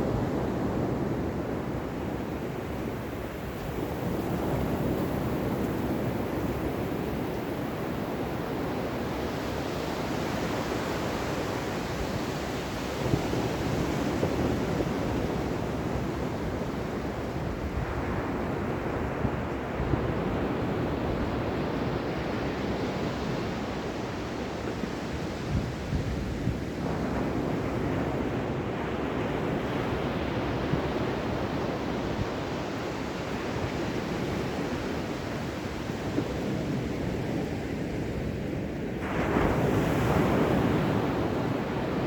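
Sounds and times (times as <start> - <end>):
ocean waves washing on shore: 0.0 - 42.0.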